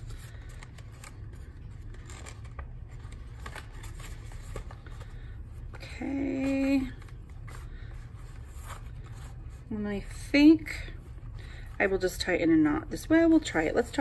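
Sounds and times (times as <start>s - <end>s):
paper and ribbon rustling: 0.0s - 12.0s
steady low hum: 0.0s - 14.0s.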